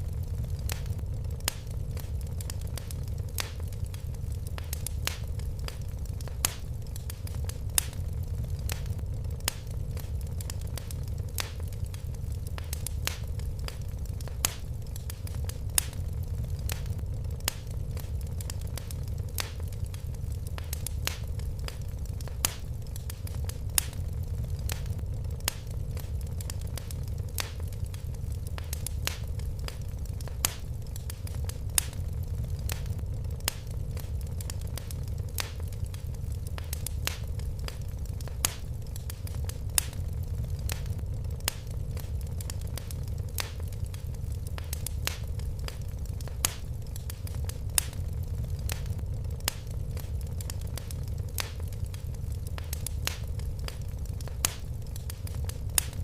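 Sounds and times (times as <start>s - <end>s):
fire crackles: 0.0s - 56.0s
low rumble of flames: 0.0s - 56.0s.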